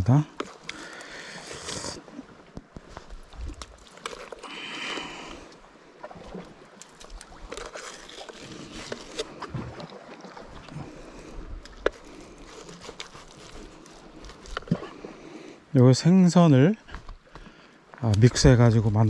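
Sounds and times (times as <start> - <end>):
water sloshing against rocks: 0.0 - 15.8.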